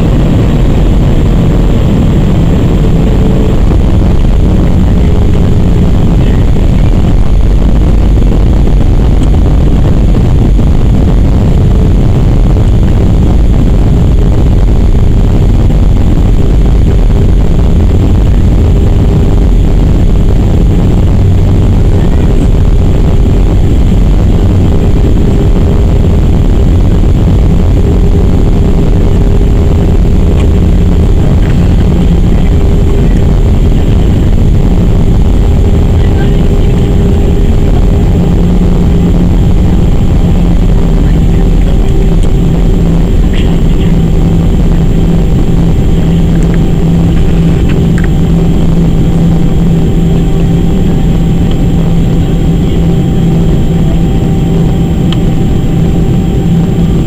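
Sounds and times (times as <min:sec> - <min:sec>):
jet engine low rumble: 0:00.0 - 0:57.0
steady cabin hum: 0:00.0 - 0:57.0.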